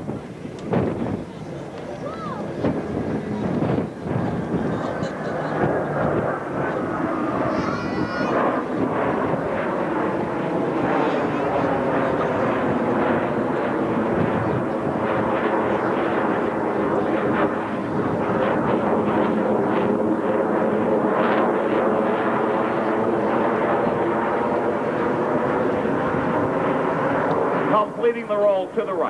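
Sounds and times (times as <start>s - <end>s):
jet engines in flight: 0.0s - 29.0s.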